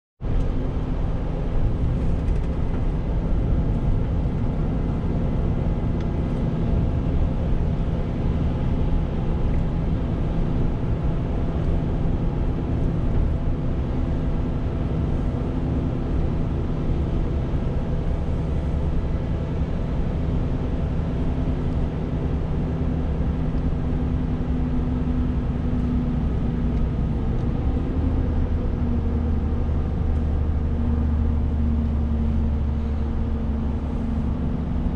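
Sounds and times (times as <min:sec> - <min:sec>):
diesel truck engine running: 0:00.2 - 0:34.9.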